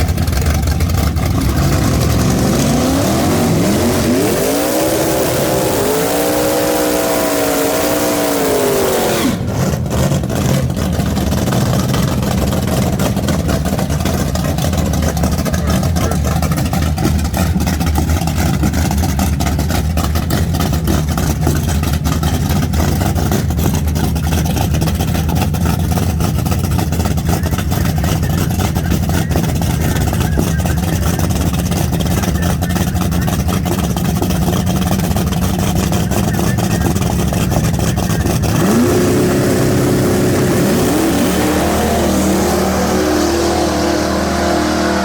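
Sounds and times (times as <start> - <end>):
race car engine revving: 0.0 - 45.0.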